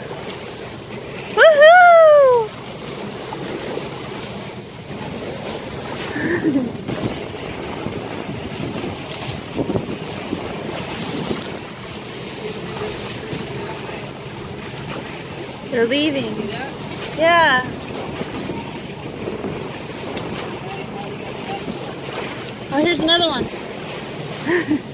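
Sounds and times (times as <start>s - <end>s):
water splashing along bow: 0.0s - 24.9s
wind buffeting microphone: 3.4s - 24.9s.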